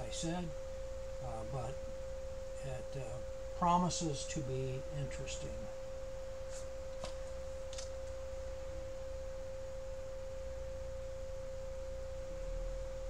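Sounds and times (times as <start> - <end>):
low hum: 0.0 - 13.0
steady single-pitch whine: 0.0 - 13.0.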